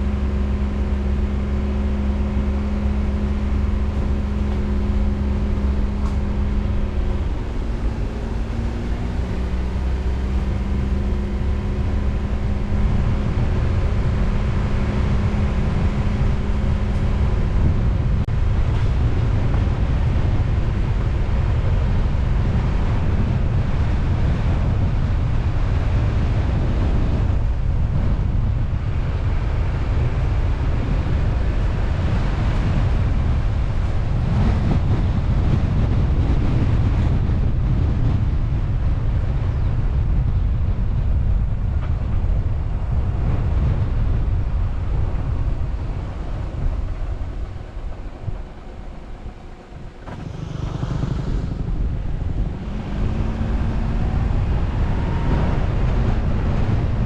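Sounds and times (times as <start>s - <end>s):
car engine humming: 0.0s - 57.0s
road rumble: 0.0s - 57.0s
wind on microphone: 0.0s - 57.0s.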